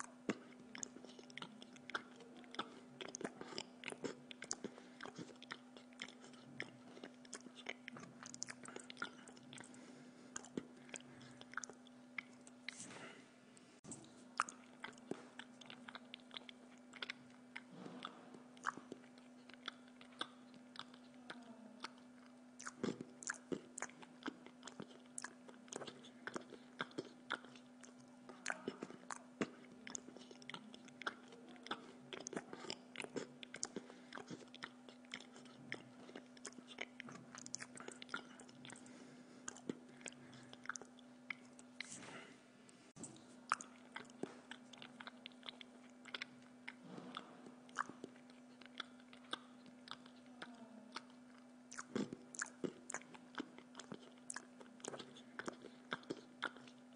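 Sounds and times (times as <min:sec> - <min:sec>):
person chewing: 0:00.0 - 0:56.9
steady low hum: 0:00.0 - 0:56.9.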